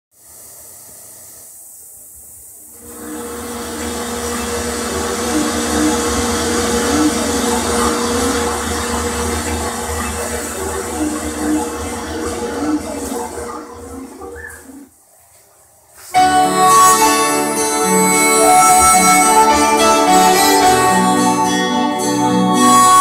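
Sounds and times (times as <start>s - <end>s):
loud steady hiss: 0.1s - 23.0s
karaoke backing music: 3.0s - 14.8s, 16.0s - 23.0s.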